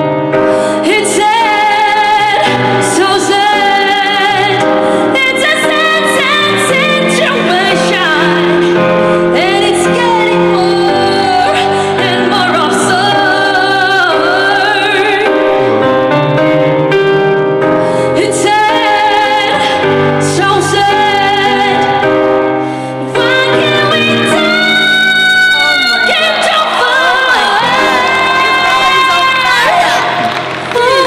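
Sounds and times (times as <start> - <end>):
woman singing a ballad: 0.0 - 15.8, 17.7 - 31.0
piano accompaniment: 0.0 - 31.0.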